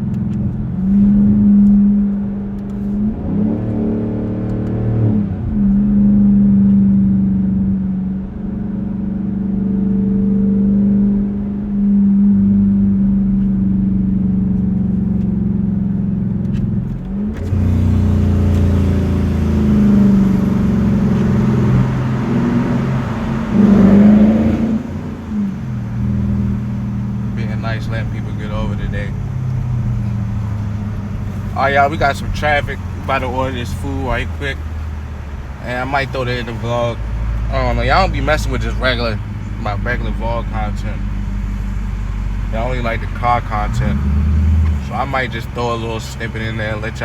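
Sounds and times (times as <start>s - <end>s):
car exhaust droning: 0.0s - 47.0s.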